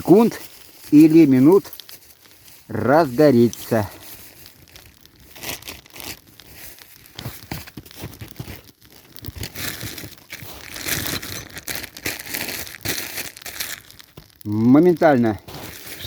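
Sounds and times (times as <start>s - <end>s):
twig fire crackling and snapping: 0.0s - 16.0s.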